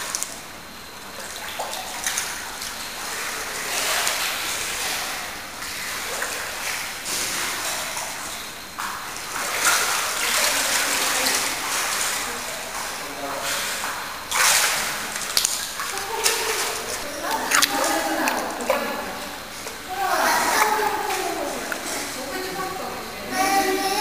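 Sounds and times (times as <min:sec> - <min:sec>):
water sloshing and splashing: 0:00.0 - 0:24.0.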